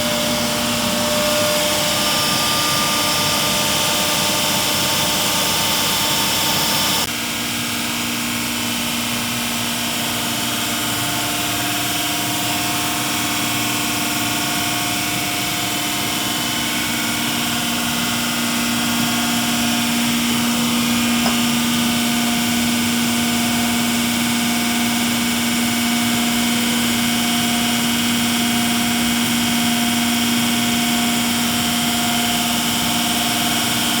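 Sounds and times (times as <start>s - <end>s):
machine whine: 0.0s - 34.0s.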